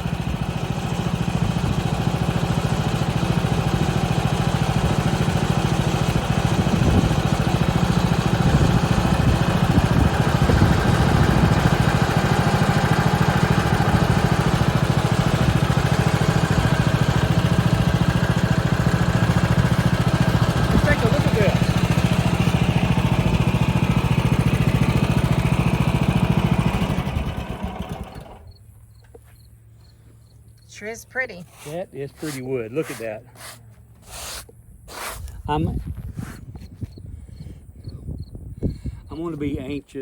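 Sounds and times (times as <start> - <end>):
sawmill gas engine running: 0.0 - 28.6, 30.0 - 36.5.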